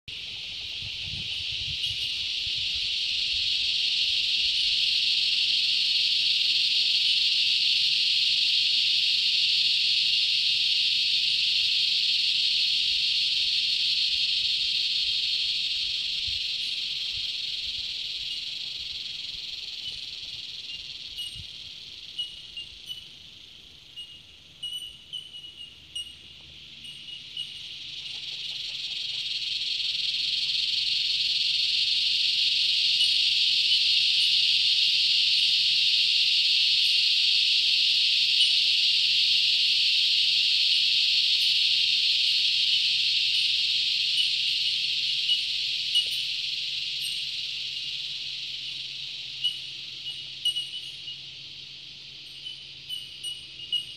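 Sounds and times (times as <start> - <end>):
insect chorus drone: 0.1 - 53.9.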